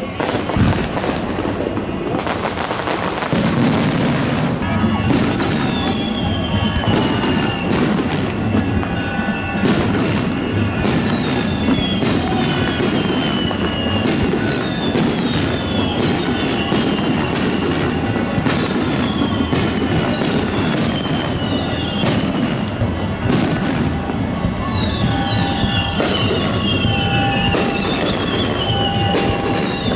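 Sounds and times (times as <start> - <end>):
falling firework whistles: 0.0 - 29.9
fireworks bangs: 0.0 - 29.9.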